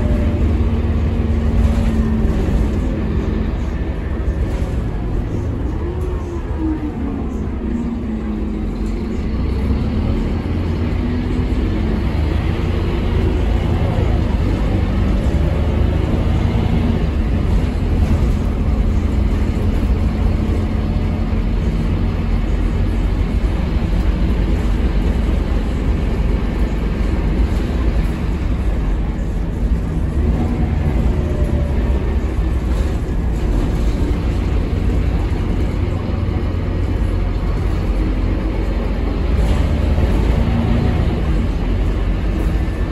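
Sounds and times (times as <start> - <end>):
bus diesel engine rumble: 0.0 - 42.9.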